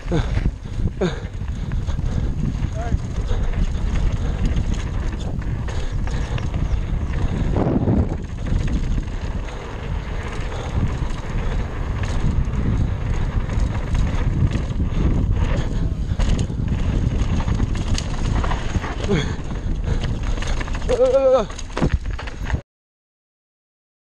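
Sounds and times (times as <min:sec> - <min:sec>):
bike rattling over bumps: 0:00.0 - 0:22.6
tyres rolling on dirt trail: 0:00.0 - 0:22.6
wind rushing over microphone: 0:00.0 - 0:22.6.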